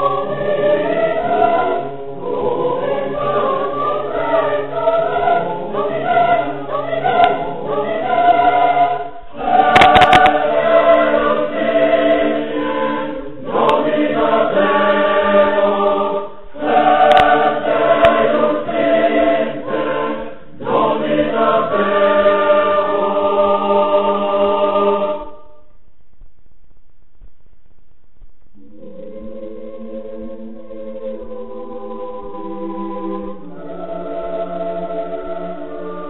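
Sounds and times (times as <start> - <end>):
choir singing sustained chords: 0.0 - 25.7, 28.6 - 36.0.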